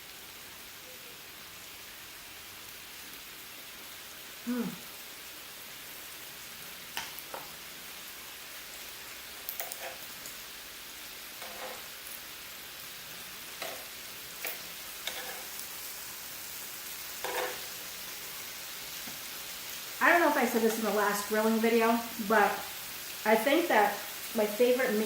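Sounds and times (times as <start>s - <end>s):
meat sizzling on a grill: 0.0s - 25.0s.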